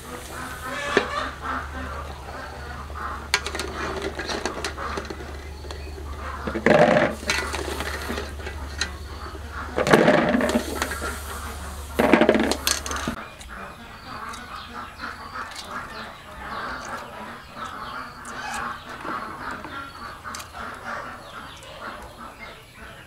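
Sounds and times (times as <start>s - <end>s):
wire strainer scraping a pot: 0.0s - 1.4s, 2.7s - 14.6s, 15.2s - 21.0s.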